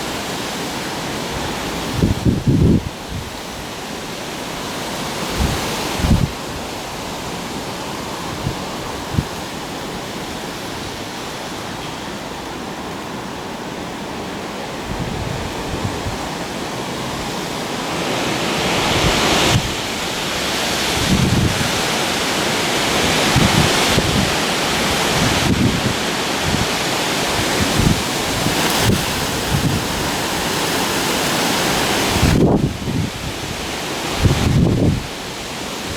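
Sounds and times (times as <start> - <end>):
strong gusty wind rushing: 0.0 - 35.9
wind buffeting microphone: 1.3 - 3.7, 5.2 - 7.2, 7.8 - 11.2, 14.6 - 35.9.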